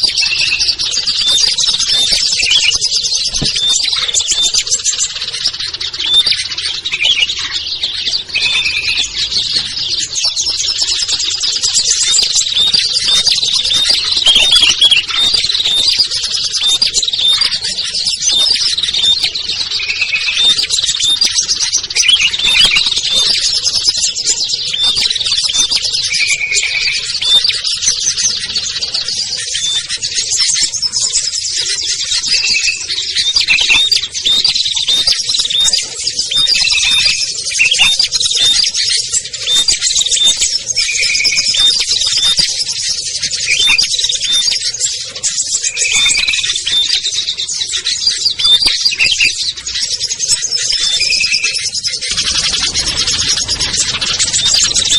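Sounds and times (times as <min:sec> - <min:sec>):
buzzy bird notes: 0:00.0 - 0:54.9
songbirds chirping: 0:00.0 - 0:54.9.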